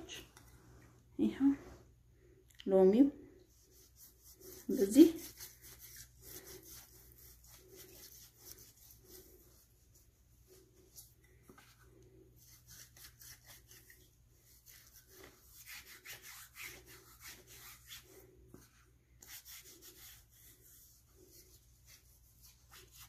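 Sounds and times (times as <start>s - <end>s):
gritty rubbing on wet skin: 3.5s - 23.0s.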